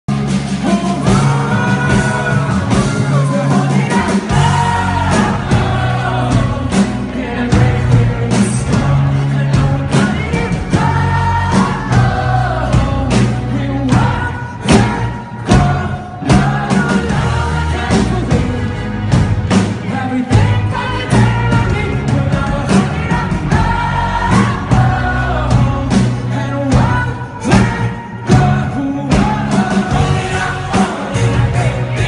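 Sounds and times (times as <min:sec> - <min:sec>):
live rock band: 0:00.1 - 0:32.0
man singing: 0:00.5 - 0:32.0.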